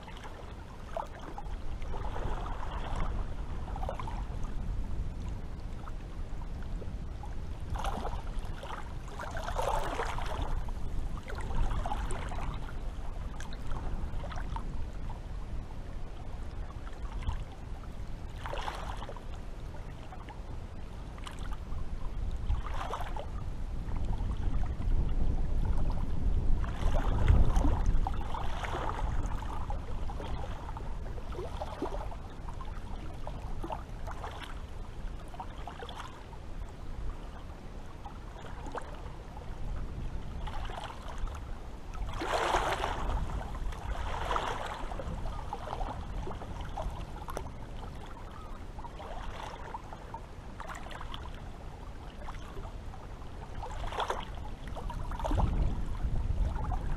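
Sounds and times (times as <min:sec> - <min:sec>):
steady low rumble: 0:00.0 - 0:18.5, 0:19.2 - 0:35.6, 0:36.2 - 0:49.0, 0:54.4 - 0:56.9
sea water lapping and splashing: 0:00.0 - 0:56.9.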